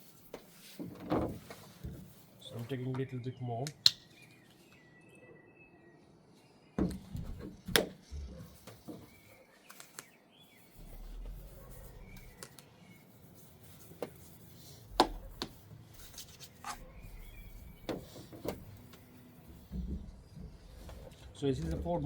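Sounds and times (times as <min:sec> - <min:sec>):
faint bird chirps: 0:02.4 - 0:21.4.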